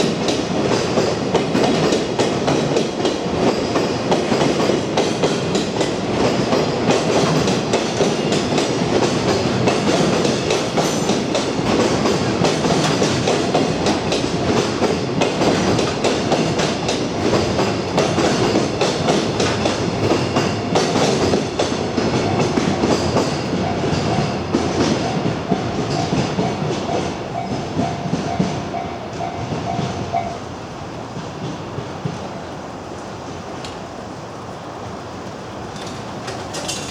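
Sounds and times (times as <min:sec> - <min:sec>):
freight train rumbling: 0:00.0 - 0:36.9
wheels clacking over rail joints: 0:00.0 - 0:36.9.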